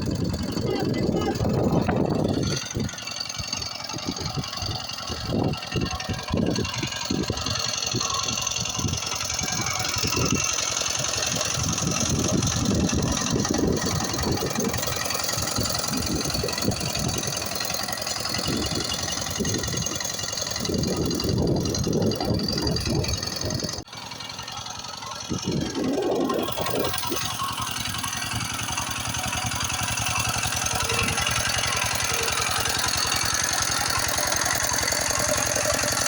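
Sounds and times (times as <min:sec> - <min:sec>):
tractor engine knocking: 0:00.0 - 0:36.0.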